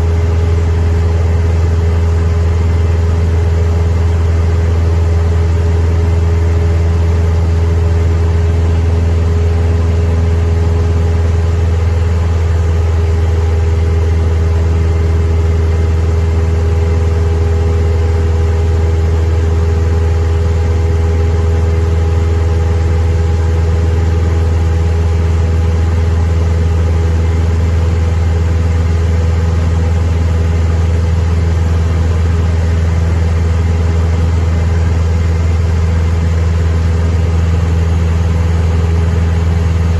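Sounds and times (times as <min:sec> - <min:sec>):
aircraft engine droning in cabin: 0:00.0 - 0:39.9.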